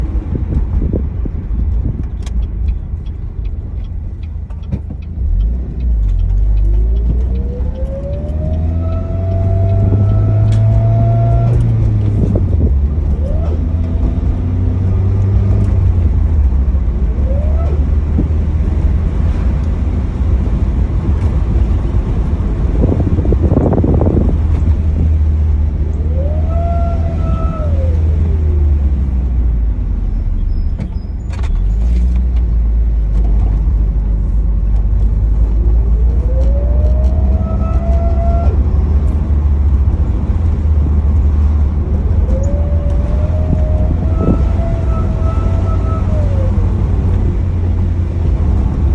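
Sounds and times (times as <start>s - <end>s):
car engine rumble: 0.0s - 48.9s
engine whine rising in pitch: 5.2s - 32.2s, 33.1s - 48.9s.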